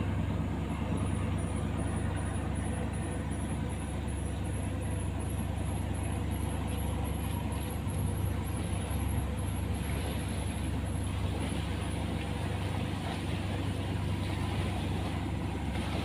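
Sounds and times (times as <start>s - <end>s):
boat motor drone: 0.0s - 16.0s.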